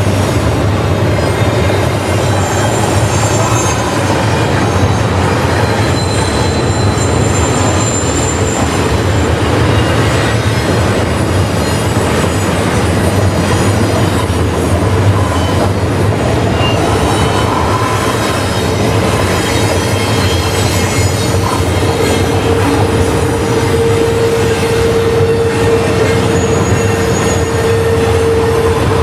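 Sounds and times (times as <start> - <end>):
freight train cars rumbling: 0.0 - 29.0
train wheel squeal: 1.2 - 29.0.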